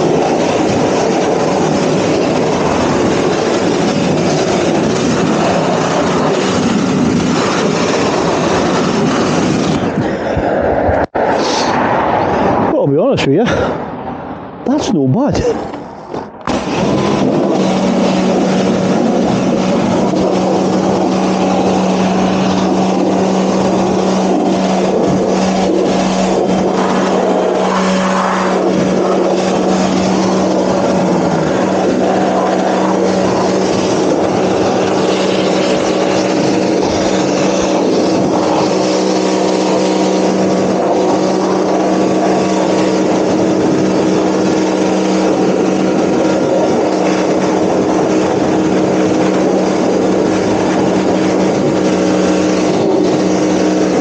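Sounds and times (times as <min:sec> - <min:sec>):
pressure washer motor humming: 0:00.0 - 0:10.2, 0:15.2 - 0:54.0
water jet hissing: 0:00.0 - 0:10.3, 0:15.5 - 0:54.0.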